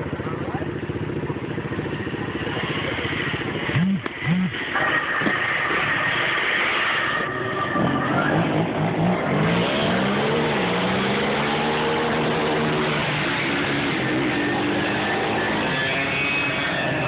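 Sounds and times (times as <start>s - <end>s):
high steady whine: 0.0s - 17.0s
quad engines revving: 0.0s - 17.0s.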